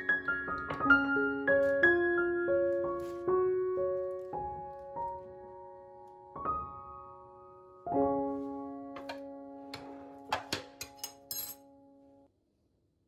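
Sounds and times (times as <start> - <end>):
slow solo piano: 0.0 - 10.8.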